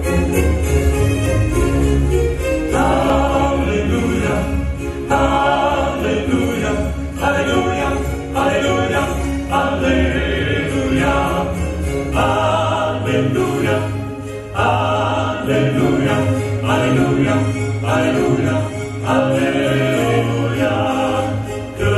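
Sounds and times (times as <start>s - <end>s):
musical accompaniment with low bass: 0.0s - 21.9s
men singing in close harmony: 2.7s - 21.9s.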